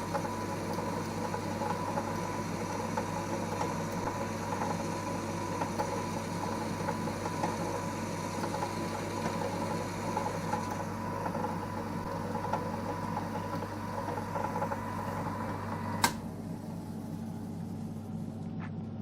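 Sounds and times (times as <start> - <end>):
lathe running hum: 0.0 - 18.4.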